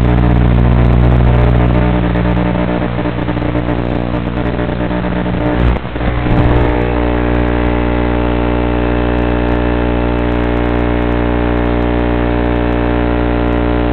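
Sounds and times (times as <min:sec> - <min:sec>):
electrical interference buzz: 0:00.0 - 0:13.9.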